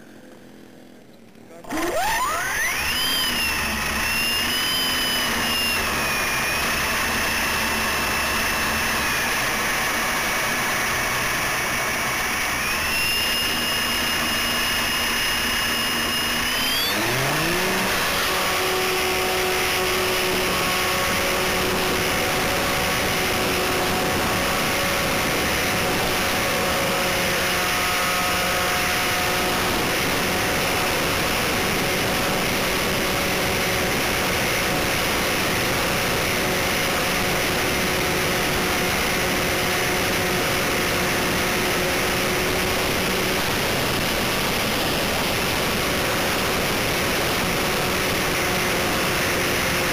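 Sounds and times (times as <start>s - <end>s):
model plane motor whine: 0.0s - 49.9s.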